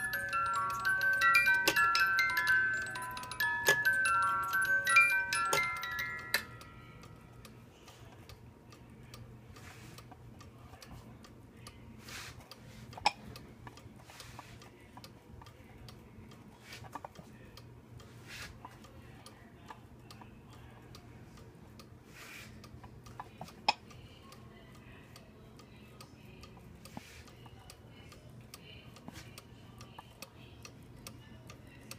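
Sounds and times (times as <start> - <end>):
cuckoo clock ticking: 0.0 - 31.9.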